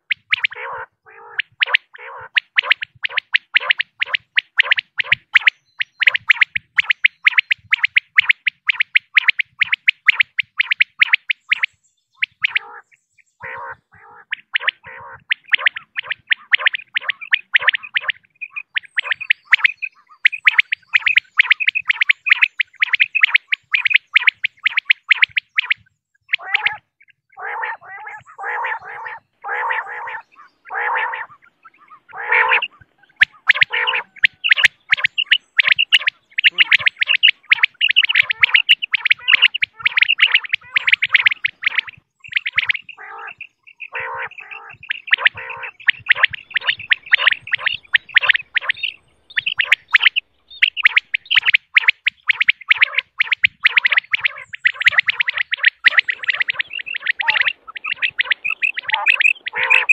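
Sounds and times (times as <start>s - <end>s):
quail calling: 0.0s - 59.9s.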